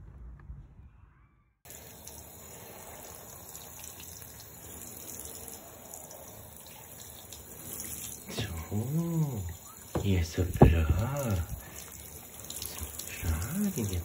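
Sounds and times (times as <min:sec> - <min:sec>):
shower water spraying: 0:01.7 - 0:14.0.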